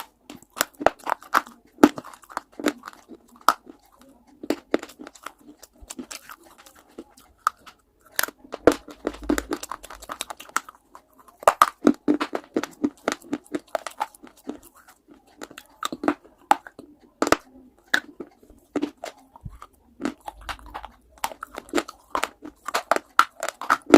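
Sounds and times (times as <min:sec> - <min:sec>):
chewing crunchy clay: 0:00.0 - 0:23.9.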